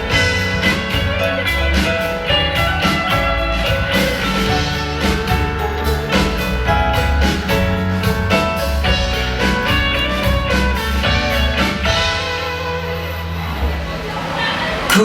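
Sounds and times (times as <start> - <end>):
drum kit beat: 0.0 - 12.6
live band playing: 0.0 - 15.0.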